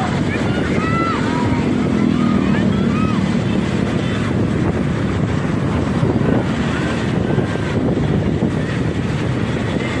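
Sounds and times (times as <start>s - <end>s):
vehicle engine and road noise: 0.0s - 10.0s
wind buffeting microphone: 0.0s - 10.0s.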